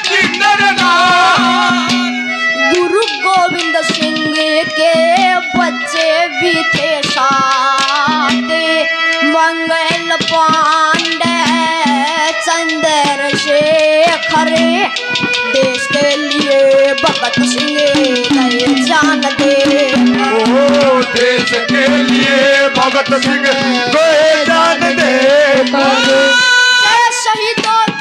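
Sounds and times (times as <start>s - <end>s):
person singing: 0.0s - 27.5s
sustained instrumental notes: 0.0s - 27.8s
hand drum strokes: 0.0s - 28.0s.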